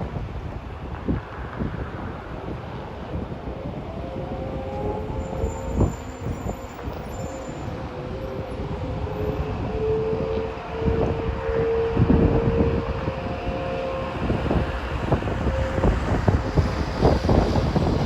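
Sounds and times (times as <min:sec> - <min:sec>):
distant wailing sirens: 0:00.0 - 0:18.0
wind buffeting microphone: 0:00.0 - 0:18.0.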